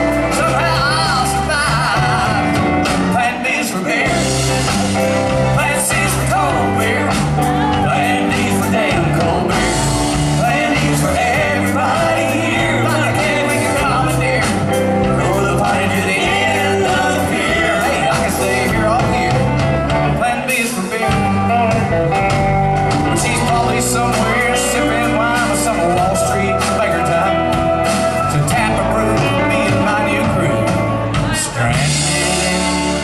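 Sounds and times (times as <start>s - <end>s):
man singing into microphone: 0.0s - 22.0s, 23.0s - 33.0s
bass notes: 0.0s - 33.0s
drums: 0.0s - 33.0s.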